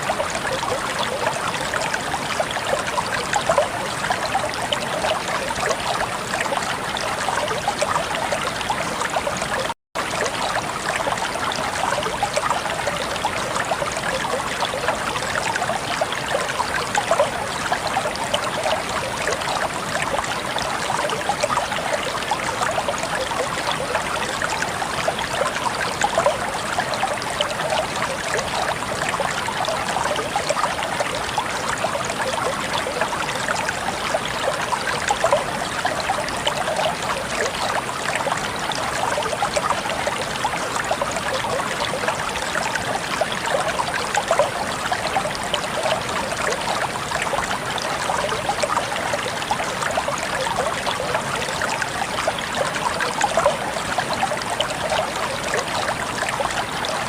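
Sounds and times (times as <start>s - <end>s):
stream water splashing and trickling: 0.0s - 57.0s.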